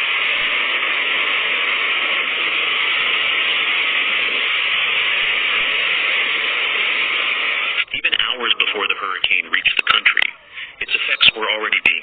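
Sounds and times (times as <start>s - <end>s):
hurricane wind and rain: 0.0s - 12.0s.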